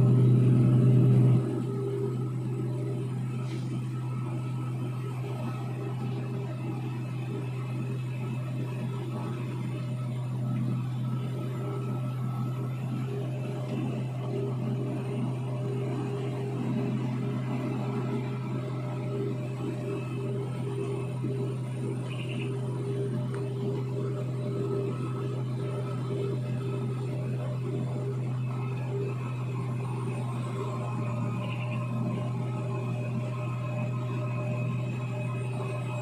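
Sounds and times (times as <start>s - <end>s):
diesel engine drone: 0.0s - 36.0s.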